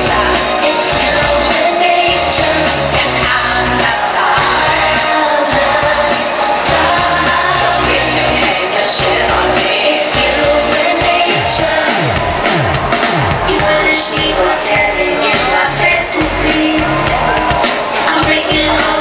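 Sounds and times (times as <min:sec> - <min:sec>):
woman singing: 0:00.0 - 0:12.2, 0:13.5 - 0:19.0
live pop-rock band: 0:00.0 - 0:19.0.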